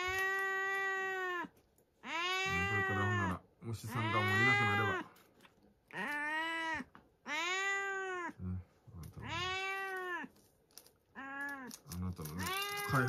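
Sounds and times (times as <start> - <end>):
cat meowing: 0.0 - 5.1, 5.9 - 8.4, 9.0 - 10.4, 11.1 - 13.0.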